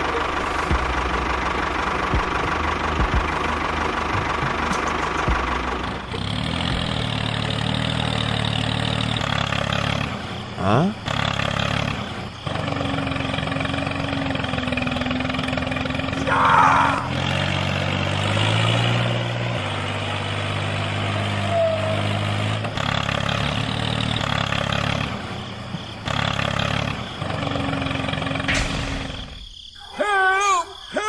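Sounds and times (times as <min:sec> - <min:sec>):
tractor engine running: 0:00.0 - 0:29.7.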